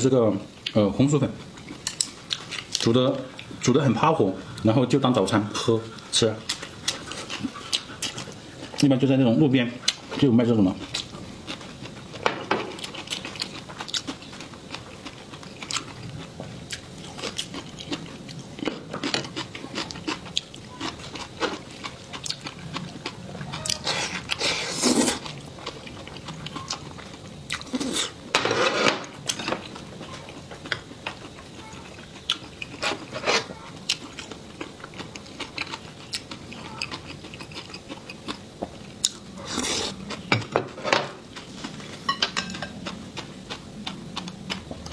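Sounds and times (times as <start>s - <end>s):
person chewing and crunching: 0.6s - 28.3s, 29.0s - 44.9s.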